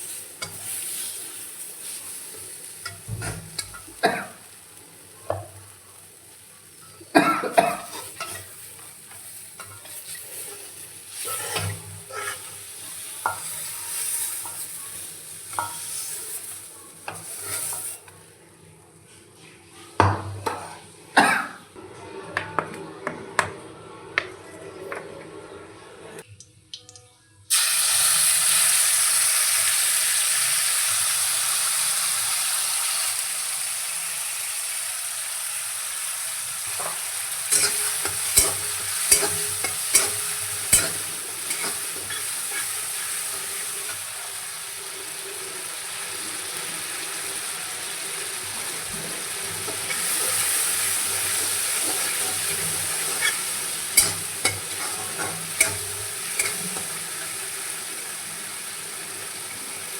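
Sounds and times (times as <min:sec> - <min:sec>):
food sizzling in hot oil: 0:00.0 - 0:18.3, 0:27.5 - 0:59.9.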